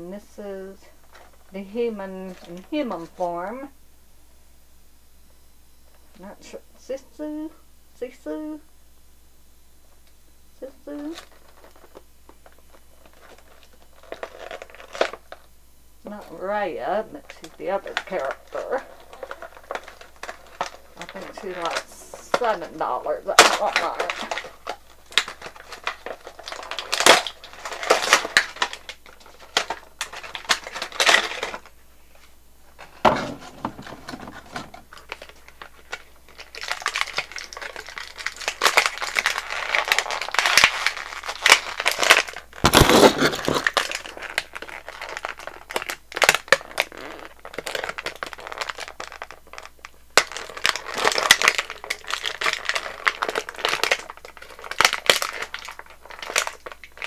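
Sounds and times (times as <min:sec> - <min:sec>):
plastic packaging crinkling: 0:00.6 - 0:03.7, 0:10.9 - 0:57.0.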